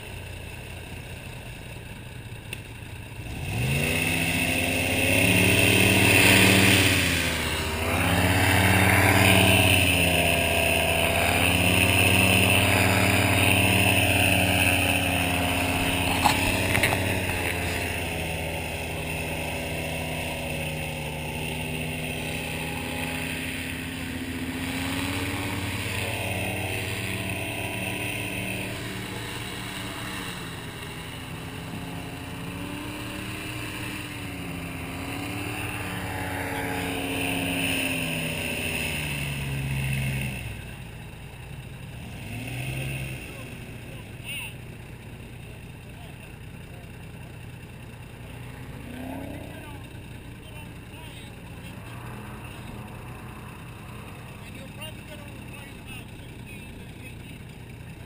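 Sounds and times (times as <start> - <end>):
airboat engine and propeller: 0.0 - 42.3, 49.4 - 58.0.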